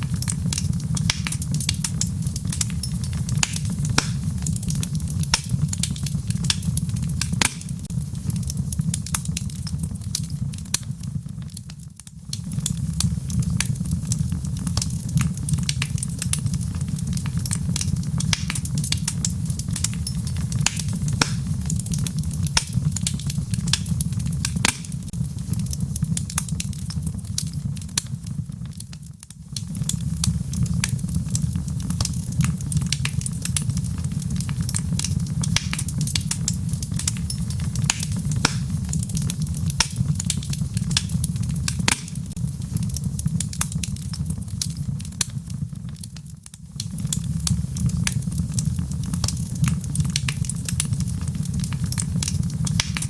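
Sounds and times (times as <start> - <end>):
logs crackling in fireplace: 0.0 - 53.0.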